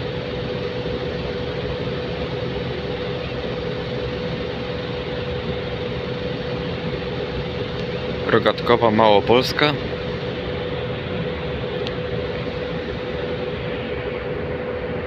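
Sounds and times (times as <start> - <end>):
mid-pitched hum: 0.0 - 15.0
railway traffic rumble: 0.0 - 15.0.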